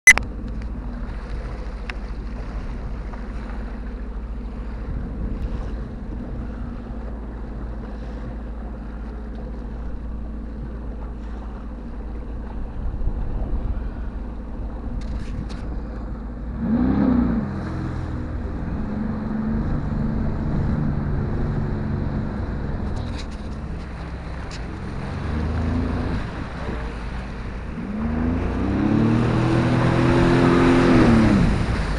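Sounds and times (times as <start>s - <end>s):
water noise: 0.0s - 31.9s
jet ski engine revving: 0.2s - 31.9s
wind on microphone: 0.8s - 8.3s, 11.4s - 31.9s.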